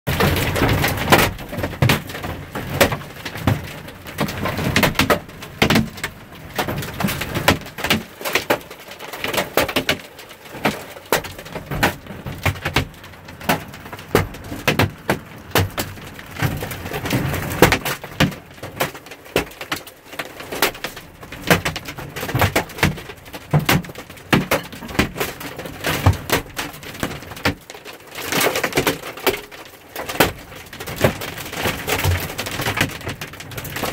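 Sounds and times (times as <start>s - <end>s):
hailstones striking hard surfaces: 0.1s - 33.9s.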